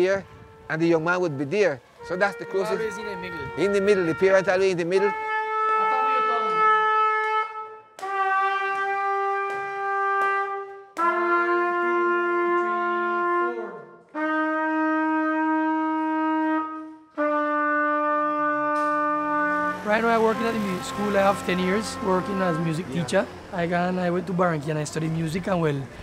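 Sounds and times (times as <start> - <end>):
lower brass note: 0.0 - 23.5
saxophone and brass long notes: 0.0 - 24.2.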